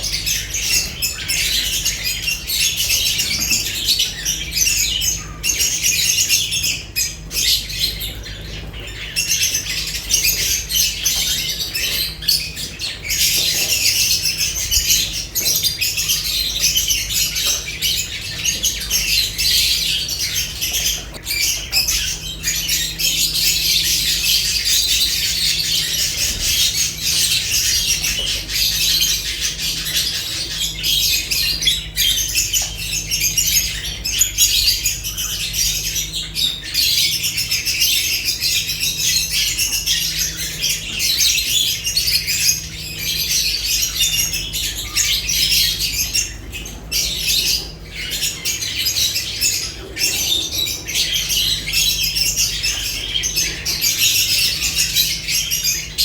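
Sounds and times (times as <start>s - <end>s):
lovebirds chattering and squawking: 0.0s - 56.0s.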